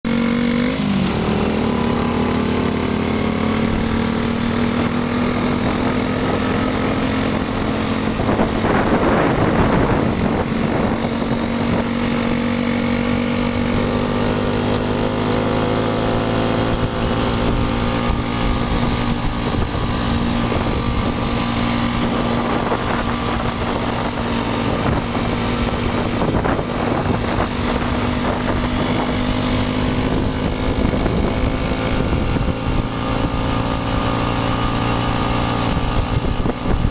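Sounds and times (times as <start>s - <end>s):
motorcycle engine idling: 0.1s - 36.9s.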